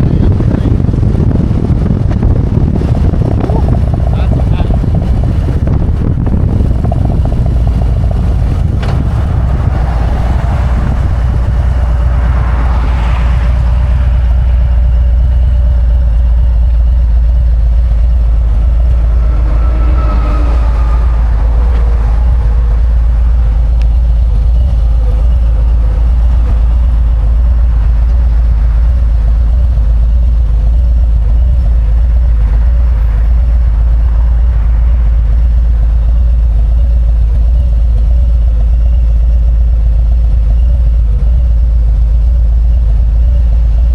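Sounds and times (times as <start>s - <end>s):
motorcycle engine droning: 0.0s - 43.9s.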